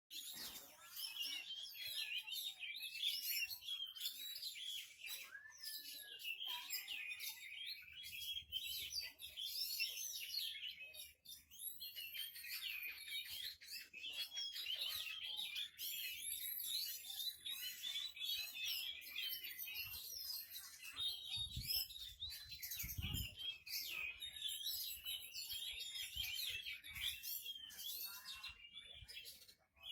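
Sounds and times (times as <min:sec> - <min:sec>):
bird song whistles and trills: 0:00.1 - 0:29.9.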